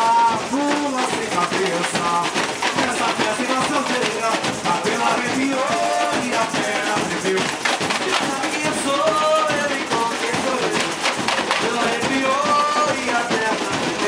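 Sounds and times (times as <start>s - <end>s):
rapid small percussion strokes: 0.0s - 14.0s
surdo bass drums: 0.0s - 14.0s
voices singing: 0.0s - 14.0s.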